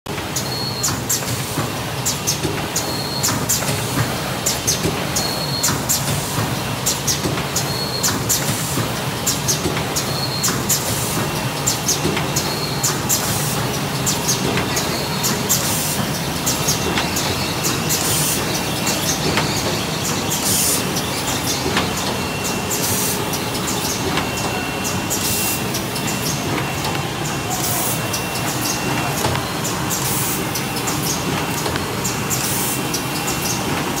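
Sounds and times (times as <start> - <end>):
machine mechanical clatter: 0.1 - 34.0.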